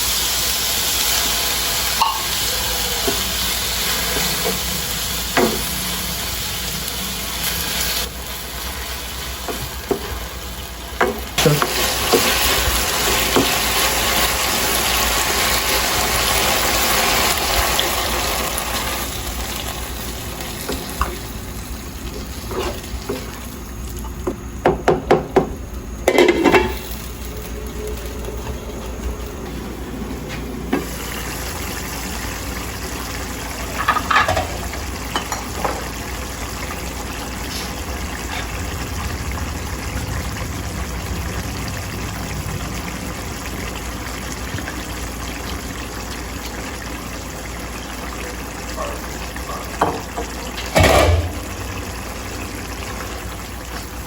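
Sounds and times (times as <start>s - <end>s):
food sizzling in a frying pan: 0.0s - 24.7s, 25.6s - 28.5s, 30.8s - 54.0s.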